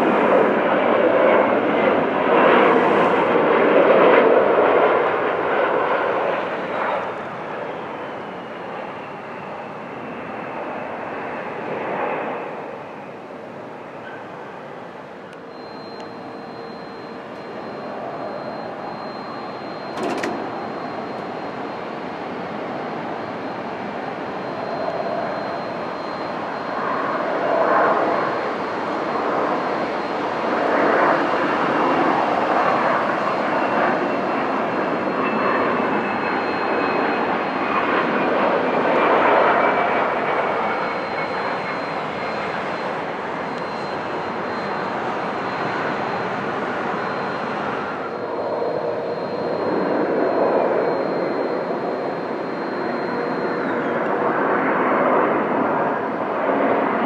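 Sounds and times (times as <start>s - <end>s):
jet engines rushing and whining: 0.0s - 57.0s.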